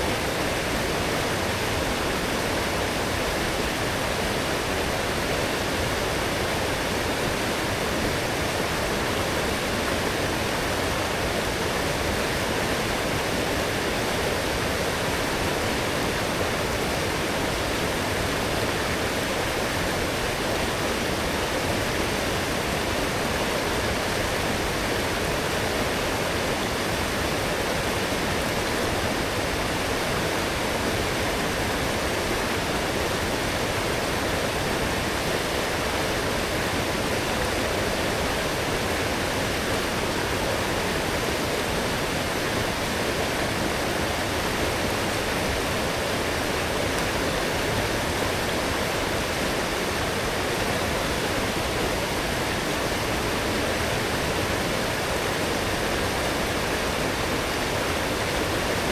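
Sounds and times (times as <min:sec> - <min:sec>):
rushing stream: 0:00.0 - 0:58.9.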